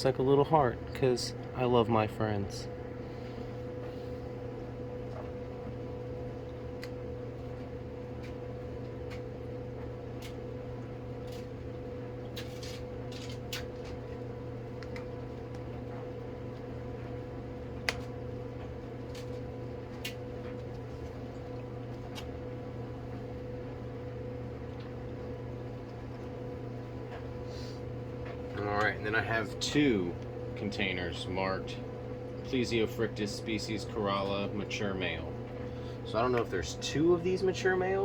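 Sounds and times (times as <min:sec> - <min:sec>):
fan hum: 0:00.0 - 0:38.0.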